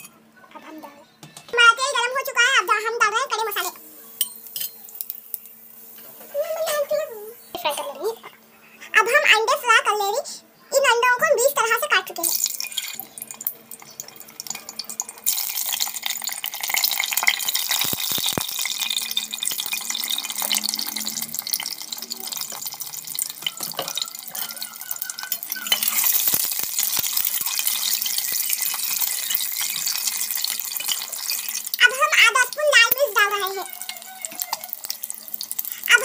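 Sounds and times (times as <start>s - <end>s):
hot oil sizzling: 2.3s - 8.2s, 11.6s - 36.0s.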